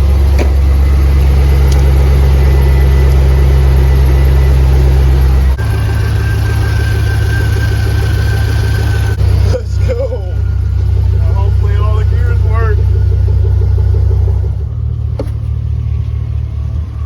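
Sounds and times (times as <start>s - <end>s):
truck engine idling: 0.0s - 17.0s
faint high whine: 0.9s - 17.0s.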